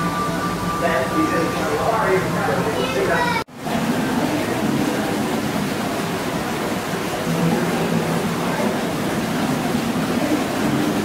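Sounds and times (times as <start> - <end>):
water rushing down rocks: 0.8 - 11.0.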